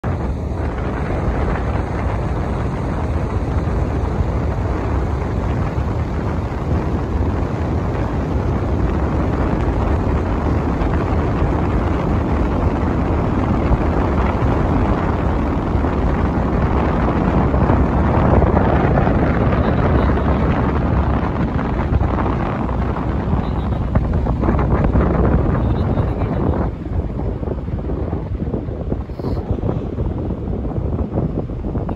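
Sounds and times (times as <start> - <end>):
boat engines: 0.0 - 31.9
wind buffeting microphone: 0.0 - 31.9.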